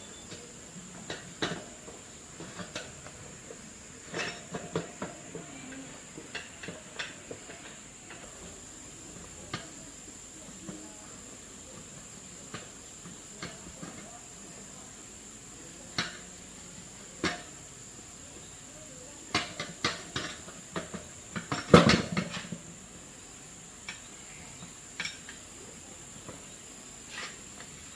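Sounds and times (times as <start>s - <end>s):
steady high hiss: 0.0s - 27.9s.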